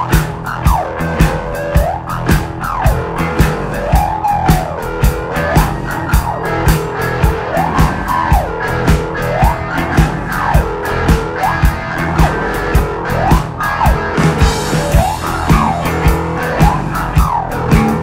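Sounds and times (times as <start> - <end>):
drum beat: 0.0 - 18.0
electric bass: 0.0 - 18.0
electric guitar: 0.0 - 18.0.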